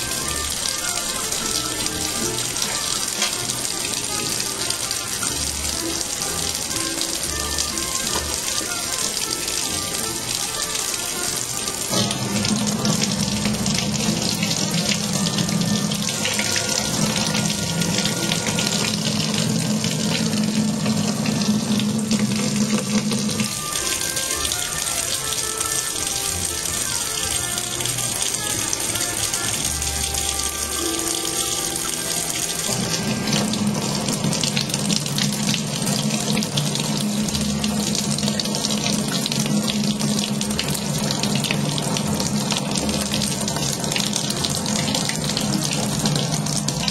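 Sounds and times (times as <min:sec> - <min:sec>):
faucet water splashing into sink: 0:00.0 - 0:46.9.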